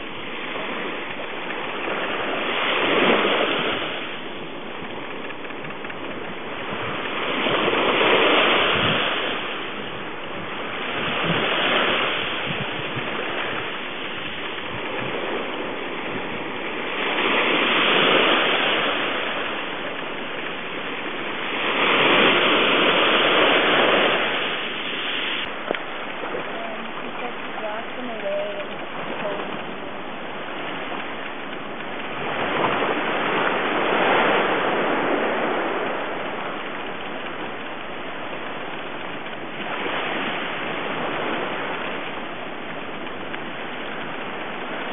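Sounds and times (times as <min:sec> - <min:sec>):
ocean waves rushing and washing back: 0:00.0 - 0:44.9.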